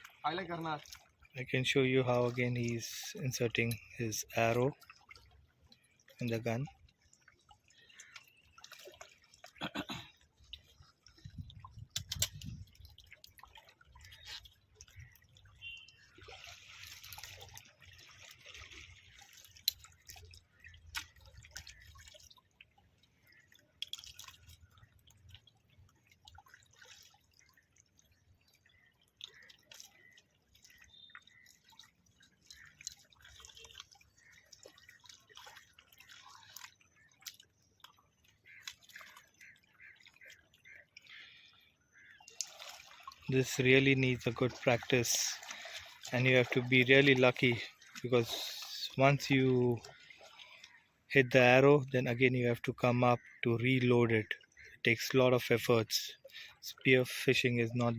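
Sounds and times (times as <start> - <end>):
water splashing and dripping: 0.0 - 57.9.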